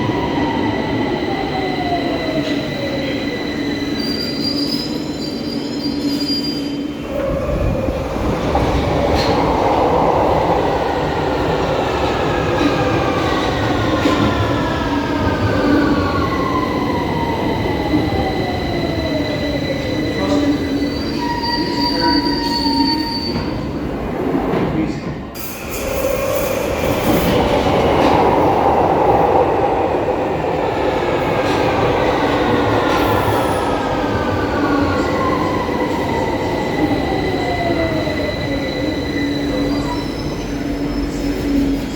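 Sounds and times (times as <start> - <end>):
wheels rumbling and squealing on rail: 0.0 - 41.9.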